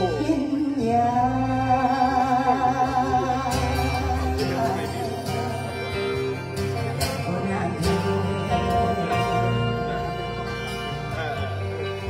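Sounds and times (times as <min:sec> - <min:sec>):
bass guitar: 0:00.0 - 0:12.0
drums: 0:00.0 - 0:12.0
strummed guitars: 0:00.0 - 0:12.0.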